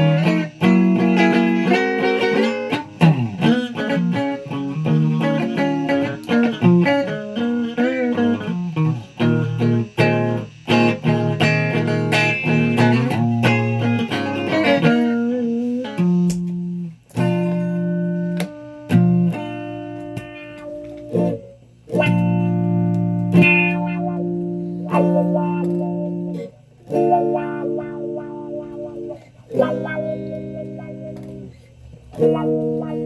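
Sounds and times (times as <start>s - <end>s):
guitar plucked notes: 0.0s - 33.0s.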